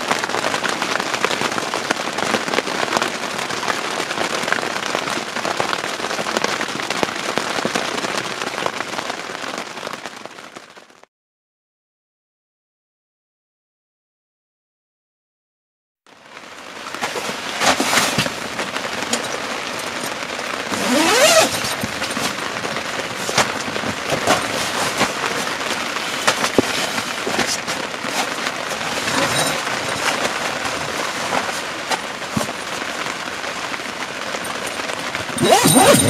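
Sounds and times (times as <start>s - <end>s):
heavy rain drumming on tent: 0.0s - 11.1s, 16.1s - 36.0s.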